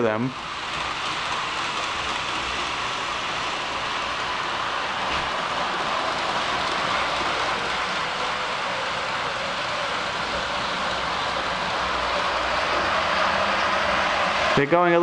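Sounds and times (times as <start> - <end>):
model train cars whirring: 0.0 - 15.0.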